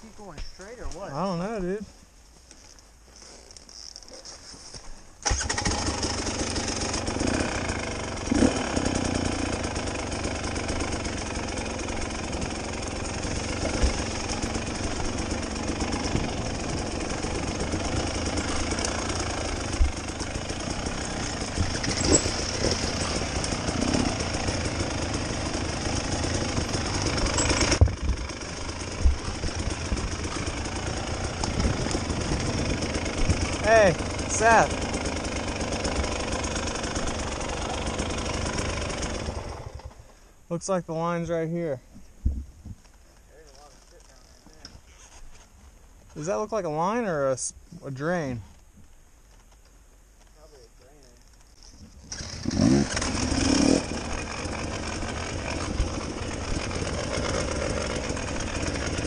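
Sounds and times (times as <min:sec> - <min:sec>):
dirt bike engine: 0:00.0 - 0:01.9, 0:02.7 - 0:48.6, 0:50.3 - 0:59.0.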